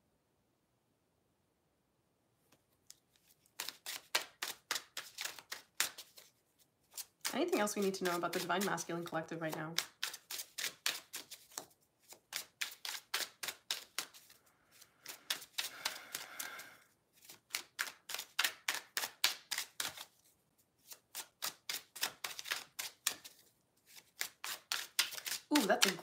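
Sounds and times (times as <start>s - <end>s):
cards being shuffled: 2.9s - 26.0s.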